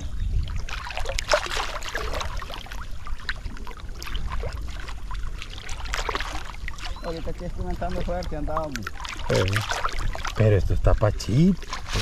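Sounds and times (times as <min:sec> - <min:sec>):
shallow water splashing: 0:00.0 - 0:12.0
wind rumbling on microphone: 0:00.0 - 0:12.0.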